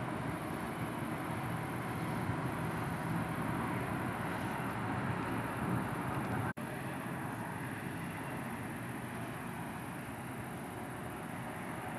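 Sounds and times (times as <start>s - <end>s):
low outdoor rumble: 0.0s - 11.9s.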